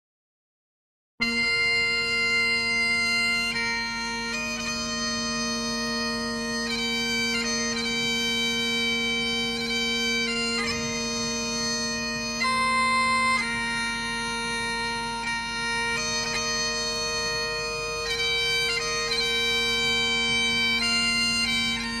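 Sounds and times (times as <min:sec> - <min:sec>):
bagpipe music: 0:01.2 - 0:22.0.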